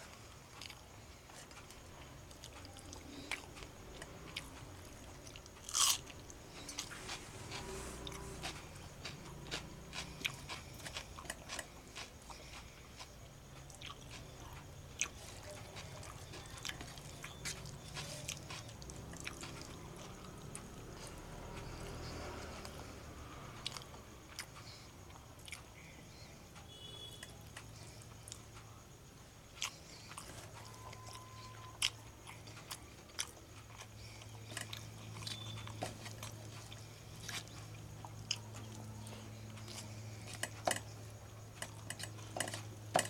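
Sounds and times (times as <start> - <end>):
person chewing and smacking: 0.4 - 22.8, 23.6 - 26.0, 29.5 - 43.0.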